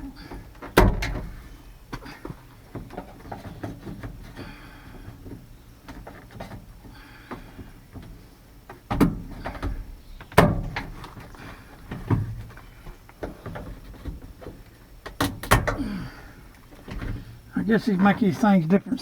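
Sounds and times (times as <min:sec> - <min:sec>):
quiet fumbling: 0:00.0 - 0:19.0.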